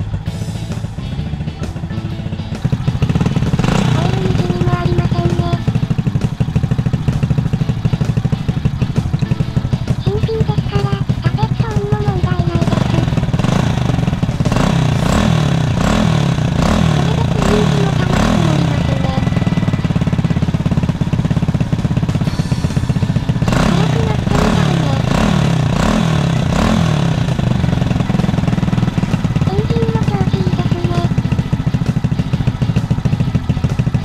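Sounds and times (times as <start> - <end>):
motorcycle engine running steadily: 0.0 - 34.0.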